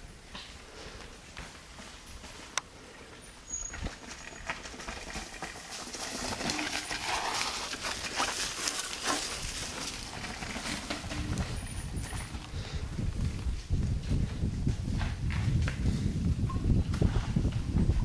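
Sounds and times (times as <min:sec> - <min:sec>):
bike tyres crunching over stones: 0:01.6 - 0:16.0
bike clattering and rattling: 0:03.1 - 0:18.0.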